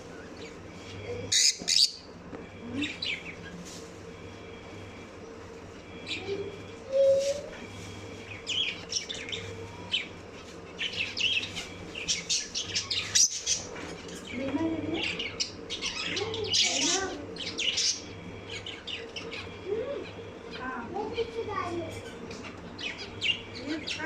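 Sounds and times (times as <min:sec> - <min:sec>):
lovebirds chirping and squawking: 0:00.0 - 0:03.7, 0:05.2 - 0:24.0.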